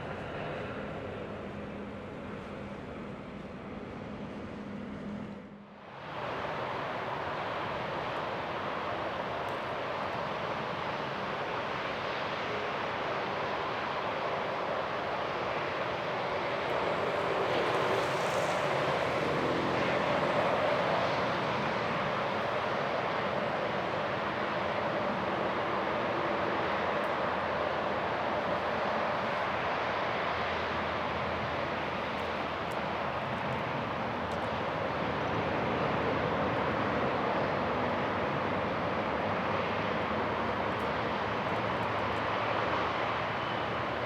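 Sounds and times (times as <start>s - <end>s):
jet airliner engines roaring: 0.0s - 44.0s.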